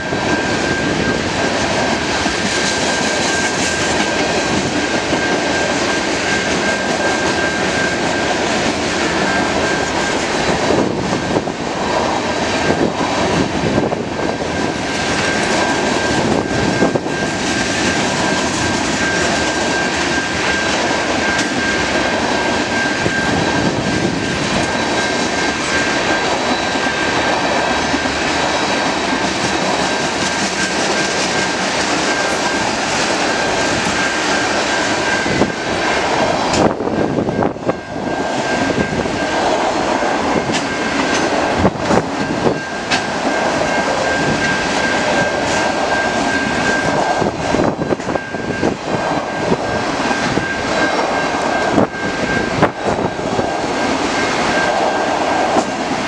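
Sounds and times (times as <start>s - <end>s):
thin high ringing tone: 0.0s - 55.6s
steel wheels rolling on rail: 0.0s - 56.0s.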